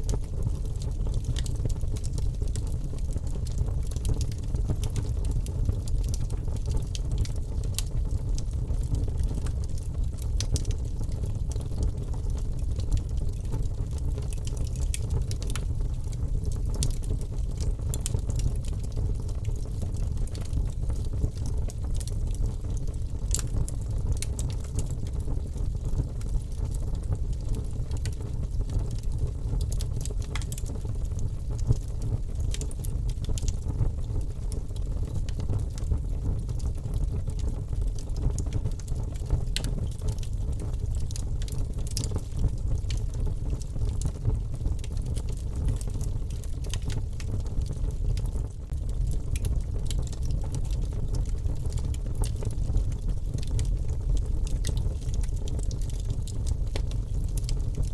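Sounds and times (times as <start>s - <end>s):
low rumble of flames: 0.0s - 57.9s
sharp pops and snaps of fire: 0.0s - 57.9s
wood fire crackling: 0.0s - 57.9s.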